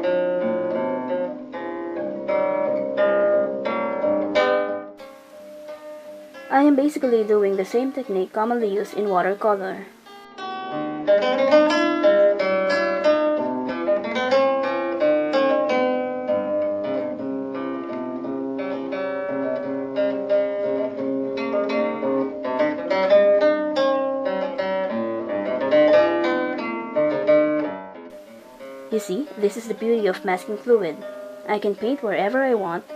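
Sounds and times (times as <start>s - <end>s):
plucked acoustic guitar: 0.0s - 32.9s.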